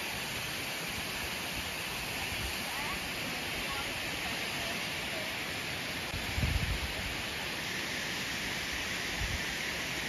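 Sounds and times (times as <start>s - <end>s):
stream water flowing over rocks: 0.0s - 10.0s.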